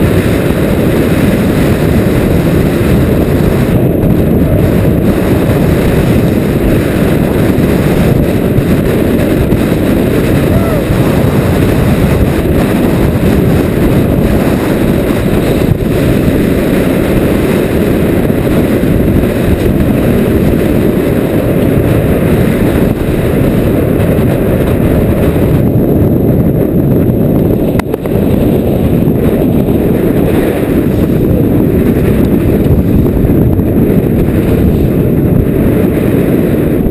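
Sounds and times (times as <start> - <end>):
water rushing along hull: 0.0 - 36.9
wind buffeting microphone: 0.0 - 36.9.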